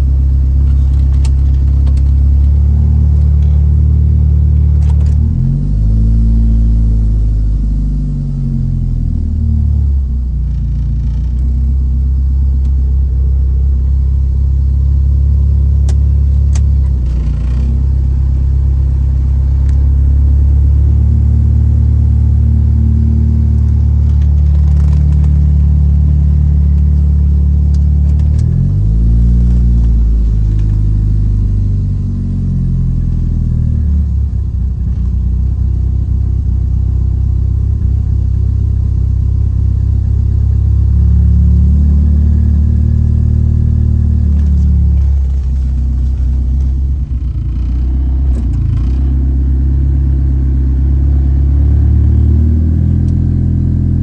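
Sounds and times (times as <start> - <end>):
car engine idling unevenly: 0.0 - 41.7, 42.5 - 51.6.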